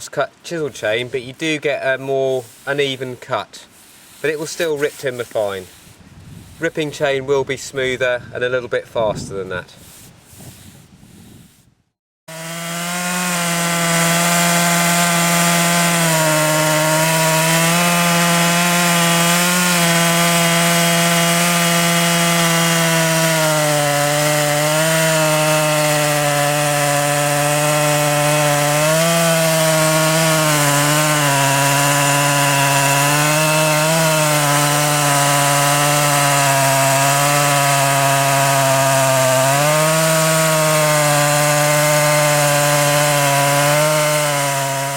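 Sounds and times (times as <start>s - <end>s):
chainsaw cutting through log: 0.6s - 7.1s, 12.3s - 44.9s.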